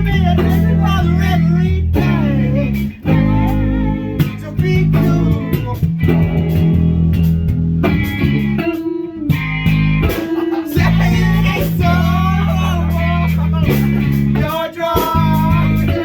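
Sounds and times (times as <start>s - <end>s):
bass guitar line: 0.0s - 16.0s
electric guitar: 0.0s - 16.0s.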